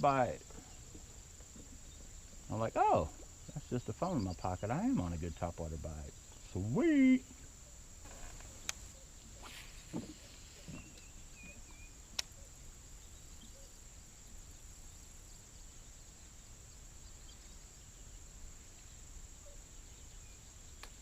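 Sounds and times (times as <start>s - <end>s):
bird chirp: 0.0s - 21.0s
insects droning: 0.0s - 21.0s.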